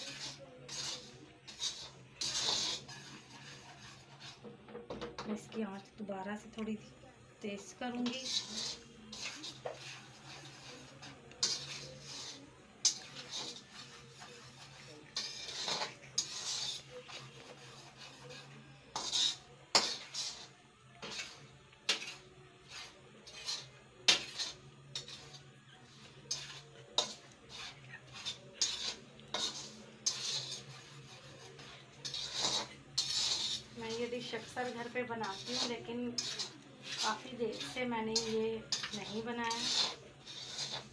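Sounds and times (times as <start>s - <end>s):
metal spoon scraping a pan: 0.0s - 40.9s.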